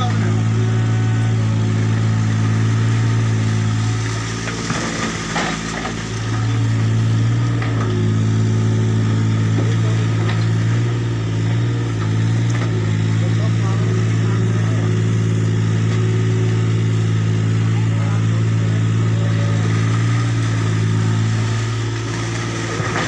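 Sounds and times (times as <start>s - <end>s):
excavator diesel engine humming: 0.0s - 23.0s.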